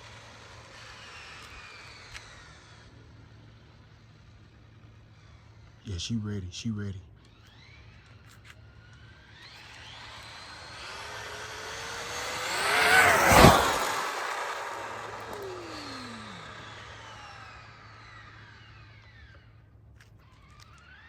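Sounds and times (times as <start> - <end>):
rc truck motor and gear whine: 0.0 - 6.2, 7.1 - 21.0.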